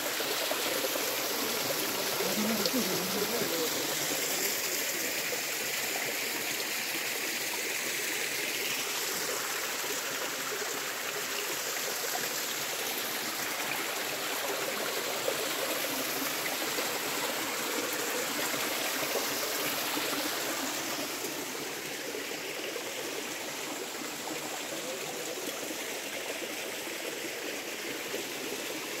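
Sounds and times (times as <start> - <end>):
water running over rocks: 0.0 - 29.0.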